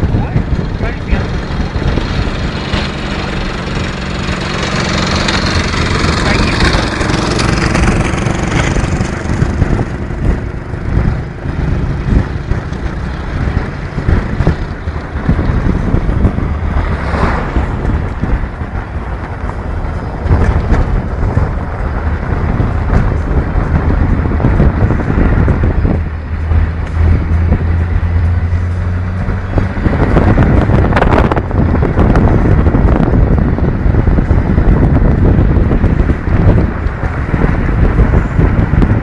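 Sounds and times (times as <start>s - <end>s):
vehicle engine running: 0.0s - 39.0s
wind buffeting microphone: 0.0s - 39.0s.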